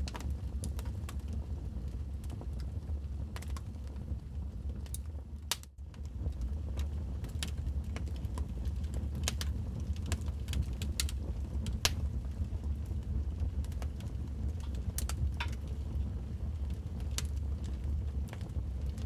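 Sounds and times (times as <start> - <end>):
fire popping and snapping: 0.0 - 19.0
low rumble of flames: 0.0 - 19.0.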